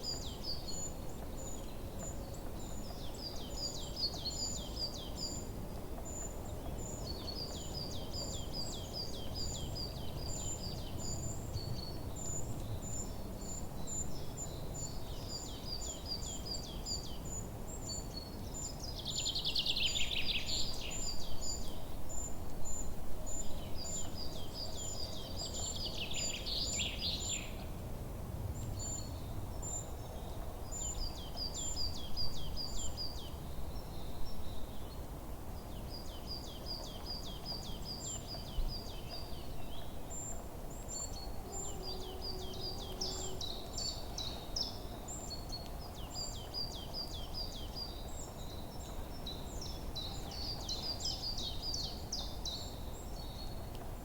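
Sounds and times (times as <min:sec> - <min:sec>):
bird song phrases: 0:00.0 - 0:27.7, 0:28.6 - 0:53.7
songbirds chirping: 0:00.0 - 0:27.8, 0:28.5 - 0:54.0.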